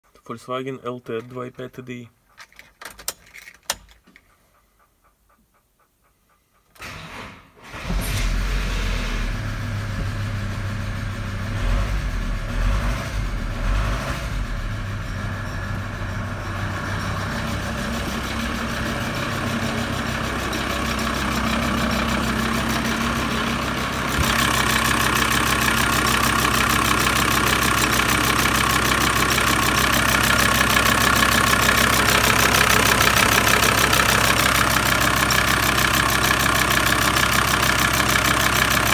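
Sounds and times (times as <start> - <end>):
diesel engine starting and idling: 6.7 - 38.9.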